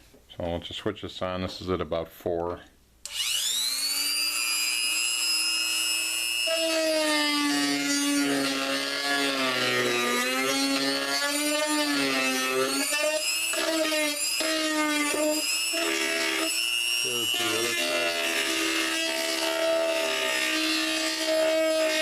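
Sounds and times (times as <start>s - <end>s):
rotary tool grinding material: 3.1s - 22.0s
rotary tool high whine: 3.1s - 22.0s.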